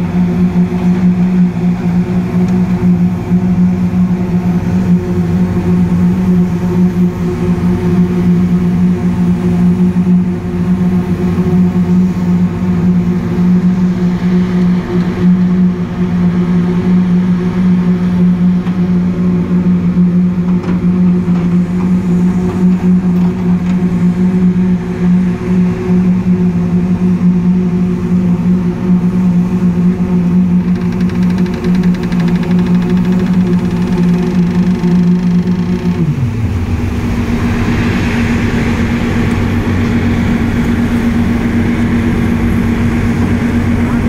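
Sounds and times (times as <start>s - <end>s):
concrete paver machine drone: 0.0s - 44.0s.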